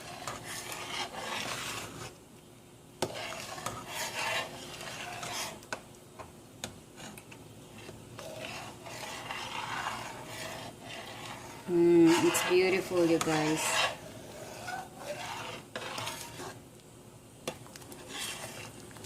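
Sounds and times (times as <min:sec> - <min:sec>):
spoon scraping a pot: 0:00.0 - 0:02.1, 0:03.0 - 0:05.8, 0:07.0 - 0:16.6, 0:17.9 - 0:18.8.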